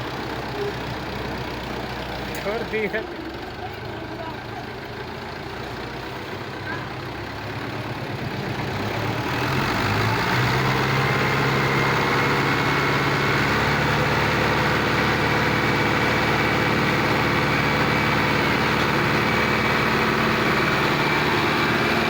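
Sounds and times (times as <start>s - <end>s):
tractor engine revving: 0.0s - 22.0s.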